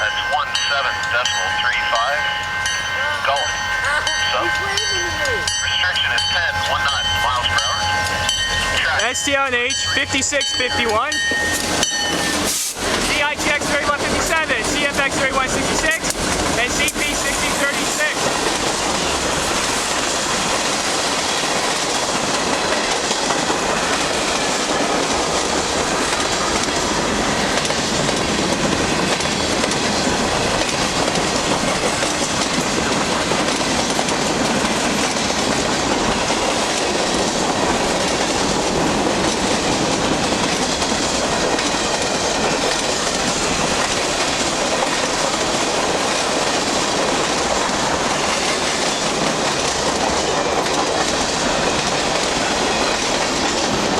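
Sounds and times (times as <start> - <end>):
freight train rolling past: 0.0 - 53.9.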